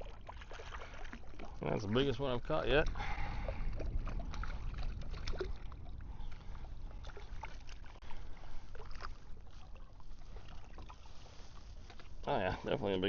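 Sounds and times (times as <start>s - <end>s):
small water splashes: 0.0s - 13.0s
steady low rumble: 1.4s - 12.7s.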